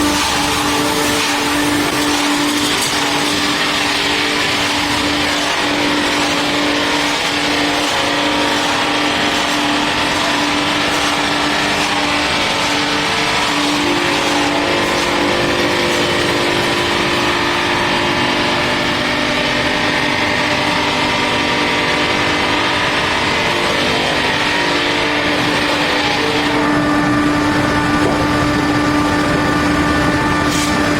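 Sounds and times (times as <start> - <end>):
circular saw machine running: 0.0 - 30.9.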